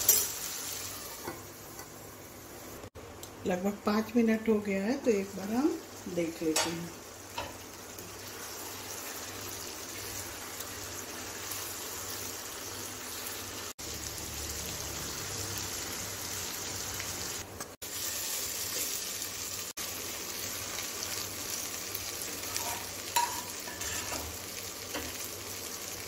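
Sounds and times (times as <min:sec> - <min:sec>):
chicken sizzling in oil: 0:00.0 - 0:03.0, 0:04.8 - 0:26.0.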